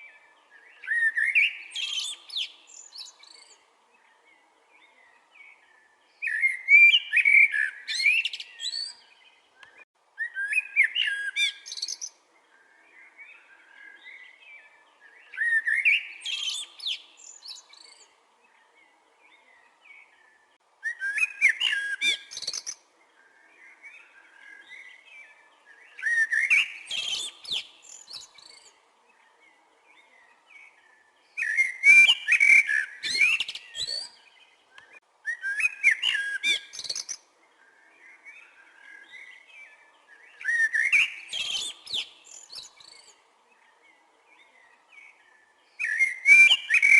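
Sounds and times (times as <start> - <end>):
blackbird singing: 0.0 - 46.9.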